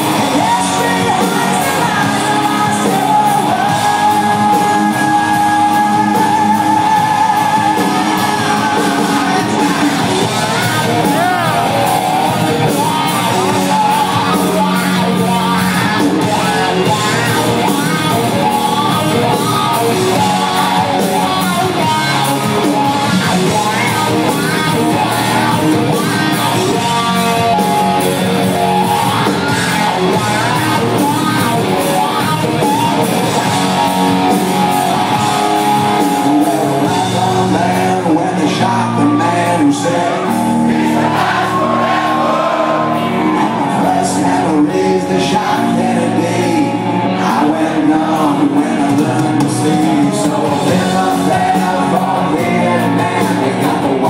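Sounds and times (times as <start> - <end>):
bass guitar: 0.0 - 54.0
drums: 0.0 - 54.0
electric guitars: 0.0 - 54.0
man singing lead vocal: 0.0 - 54.0.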